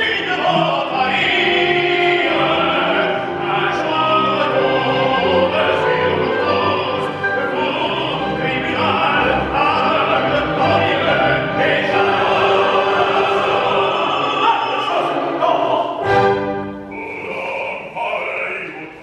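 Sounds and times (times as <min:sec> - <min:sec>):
orchestra playing: 0:00.0 - 0:19.0
tenor singing opera: 0:00.0 - 0:19.0.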